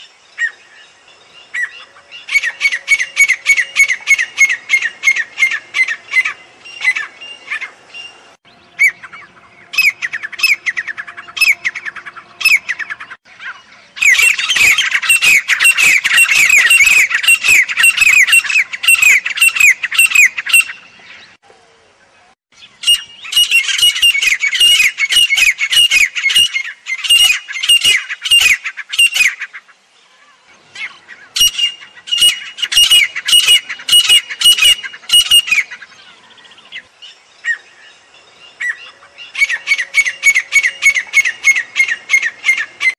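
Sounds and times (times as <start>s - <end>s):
francolin calling rapidly: 0.0s - 21.4s, 22.6s - 42.9s.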